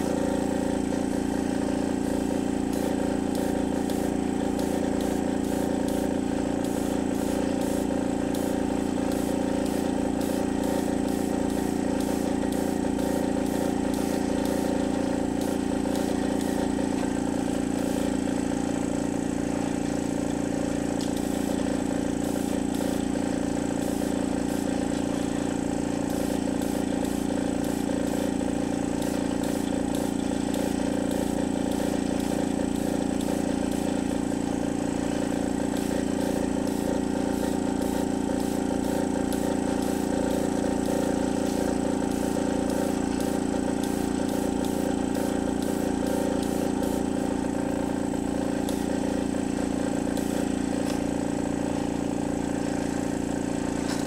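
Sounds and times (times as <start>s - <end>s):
air compressor motor hum: 0.0s - 54.0s.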